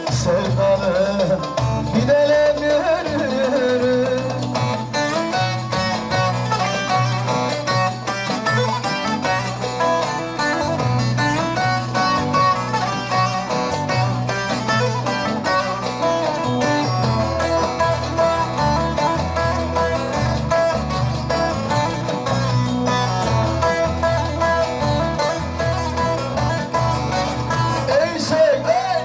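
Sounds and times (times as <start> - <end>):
plucked string melody: 0.0 - 29.0
bass notes: 0.1 - 29.0.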